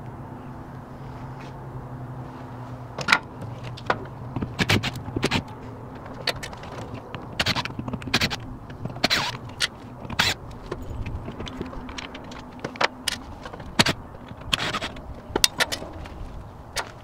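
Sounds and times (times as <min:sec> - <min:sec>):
tools and latch hardware rattling: 0:03.0 - 0:17.0.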